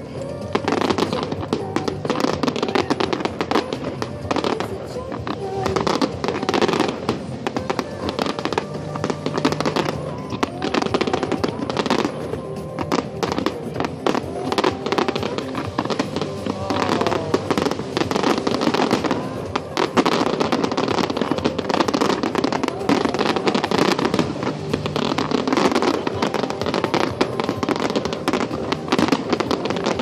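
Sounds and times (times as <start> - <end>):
fireworks cracking and popping: 0.0 - 30.0
music playing: 0.0 - 30.0.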